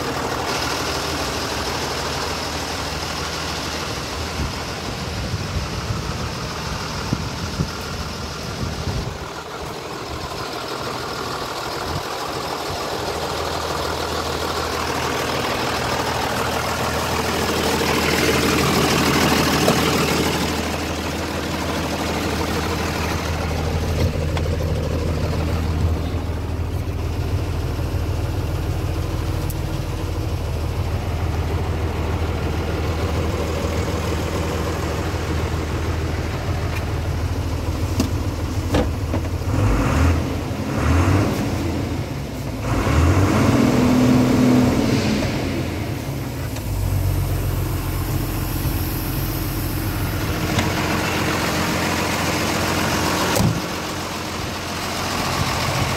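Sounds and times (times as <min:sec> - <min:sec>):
diesel truck engine idling: 0:00.0 - 0:55.9.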